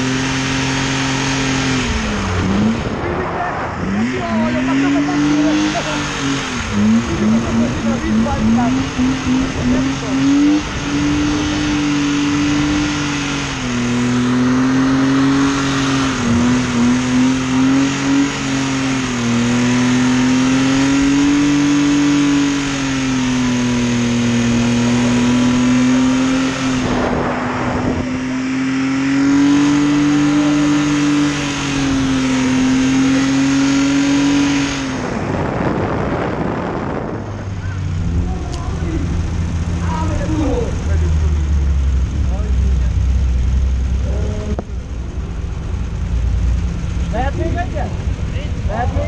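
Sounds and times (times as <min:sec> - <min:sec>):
car engine at high revs: 0:00.0 - 0:49.0.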